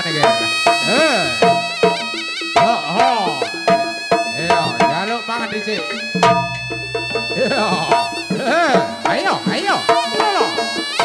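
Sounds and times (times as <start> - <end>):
drum strokes: 0.0 - 11.0
swooping melody line: 0.0 - 11.0.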